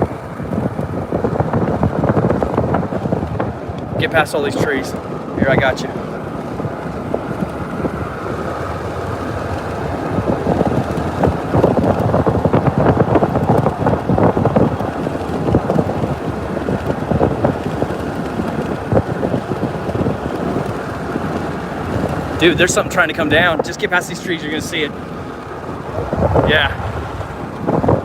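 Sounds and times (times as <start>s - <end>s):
rain spattering on vehicle: 0.0s - 28.0s
road and wind noise inside vehicle: 0.0s - 28.0s.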